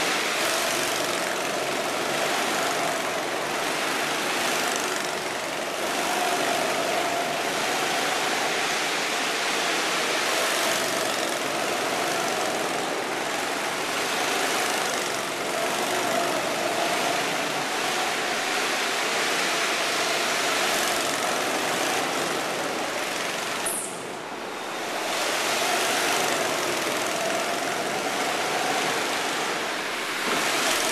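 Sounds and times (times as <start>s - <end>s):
go-kart engines passing: 0.0s - 30.9s.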